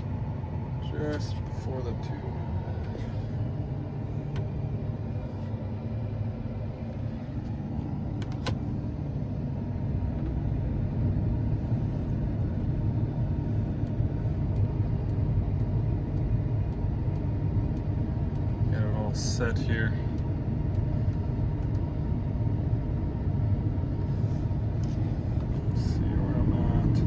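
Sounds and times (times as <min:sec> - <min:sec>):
combine harvester rumbling: 0:00.0 - 0:27.0.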